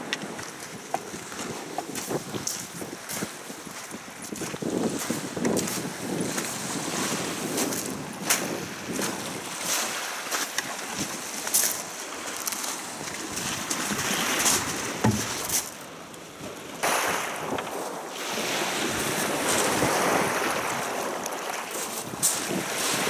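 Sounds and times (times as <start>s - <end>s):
wind buffeting microphone: 0.0s - 10.0s, 10.8s - 21.3s, 21.9s - 23.0s
choppy water splashing: 0.0s - 23.0s.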